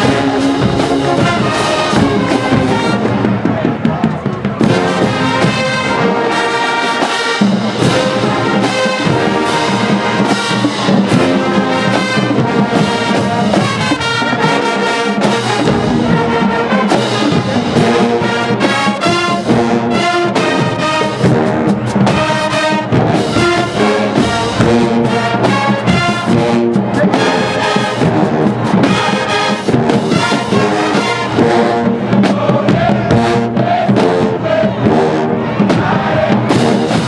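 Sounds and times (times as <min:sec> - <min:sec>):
marching band brass tune: 0:00.0 - 0:37.0.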